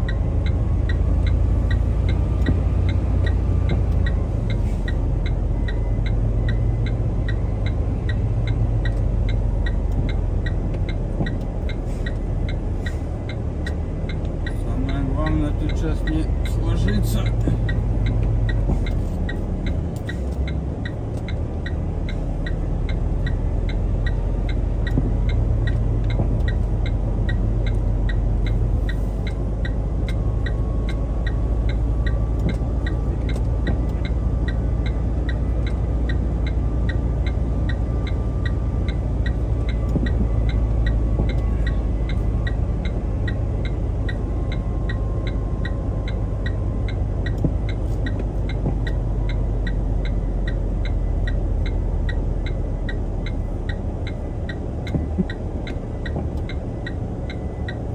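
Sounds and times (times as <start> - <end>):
light ticking: 0.0 - 57.9
truck diesel engine hum: 0.0 - 57.9.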